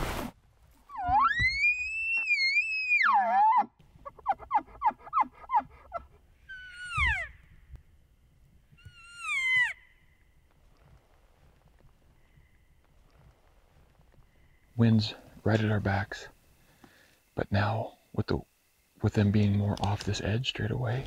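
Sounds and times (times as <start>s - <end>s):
elk bugling: 0.8s - 7.8s, 8.6s - 21.0s.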